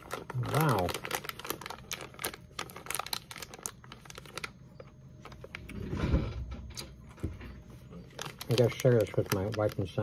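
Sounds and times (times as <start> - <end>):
foil bag crinkling: 0.0 - 5.9, 7.1 - 10.0.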